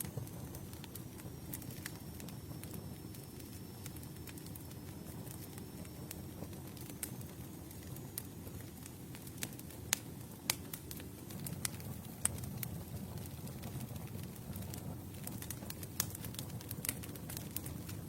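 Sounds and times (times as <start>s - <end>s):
campfire flames rumbling: 0.0s - 18.0s
wood crackling and popping: 0.0s - 18.0s.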